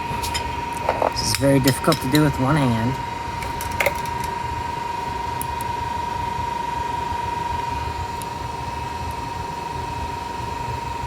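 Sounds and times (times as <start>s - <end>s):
high whine: 0.0s - 10.2s
cooling fans running: 0.0s - 11.0s.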